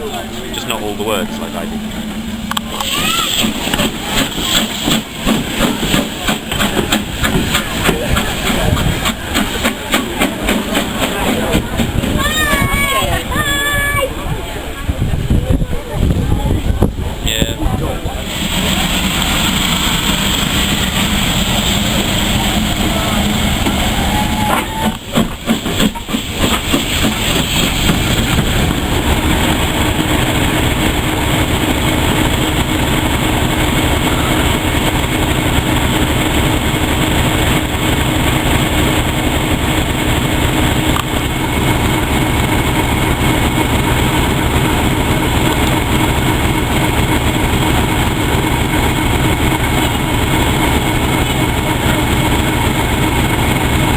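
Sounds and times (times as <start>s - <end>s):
train rumbling along track: 0.0s - 53.9s.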